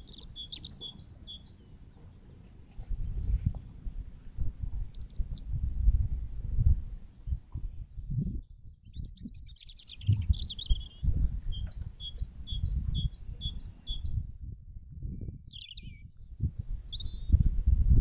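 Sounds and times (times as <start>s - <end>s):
songbird singing: 0.0s - 6.3s, 6.9s - 17.5s.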